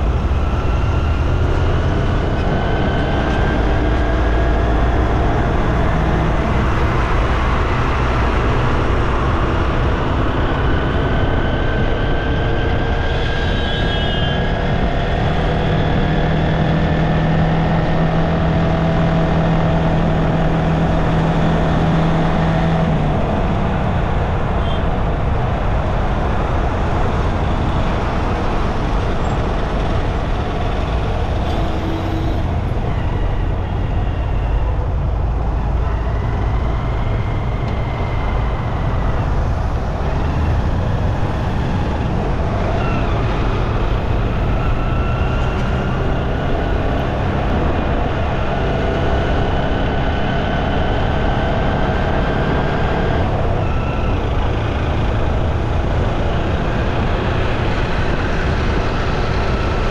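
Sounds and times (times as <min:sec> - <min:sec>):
street traffic: 0:00.0 - 0:59.9
vehicle engine drone: 0:00.0 - 0:59.9.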